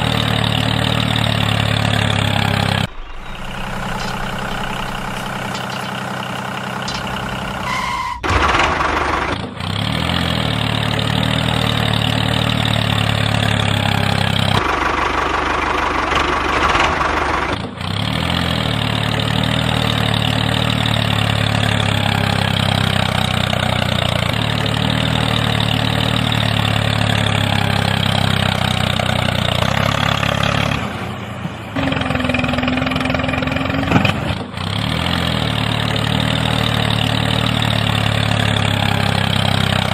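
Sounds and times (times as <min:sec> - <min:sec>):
small engine running: 0:00.0 - 0:31.1, 0:31.8 - 0:39.9.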